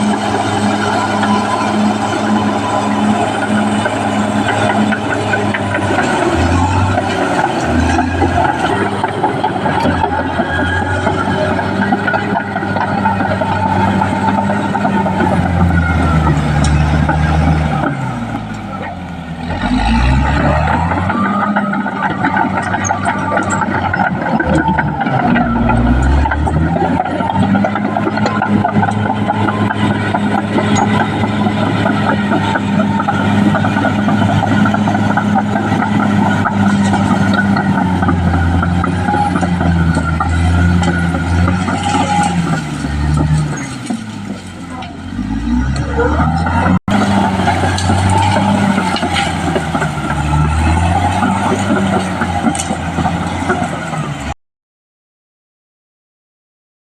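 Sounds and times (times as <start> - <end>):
metal clanks and knocks: 0.0 - 54.3
bulldozer diesel engine running: 0.0 - 54.4.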